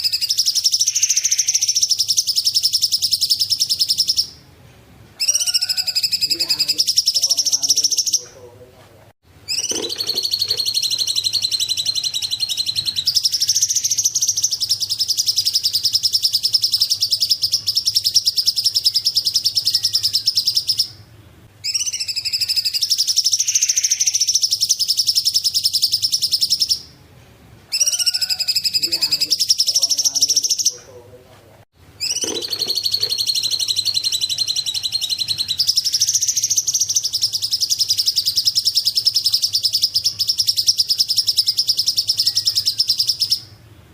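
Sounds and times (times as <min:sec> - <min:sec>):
bird singing fast trills: 0:00.0 - 0:04.4, 0:05.2 - 0:08.4, 0:09.5 - 0:27.0, 0:27.7 - 0:30.9, 0:32.0 - 0:43.6.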